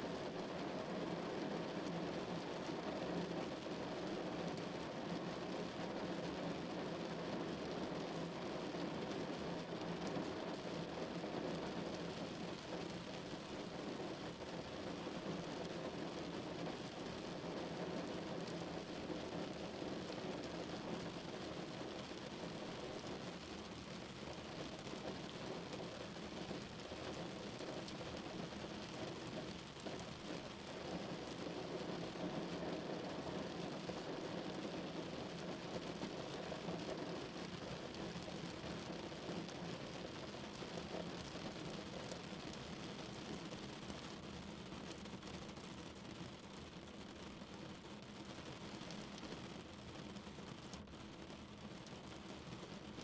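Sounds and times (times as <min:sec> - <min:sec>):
rain on a car roof: 0:00.0 - 0:53.0.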